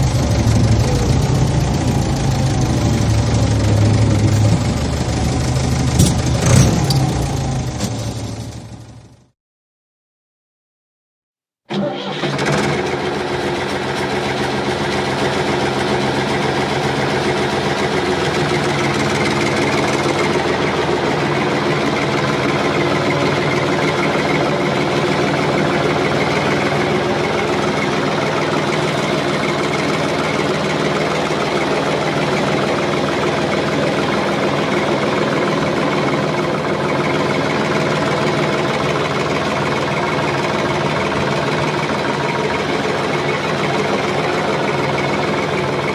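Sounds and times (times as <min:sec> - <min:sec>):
large engine running steadily: 0:00.0 - 0:09.3, 0:11.7 - 0:45.9.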